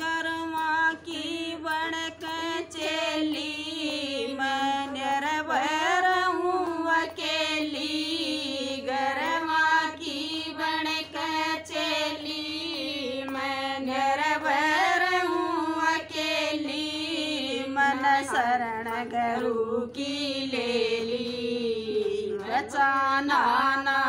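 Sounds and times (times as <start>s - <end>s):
hand claps: 0.0s - 24.0s
women singing unaccompanied: 0.0s - 24.0s.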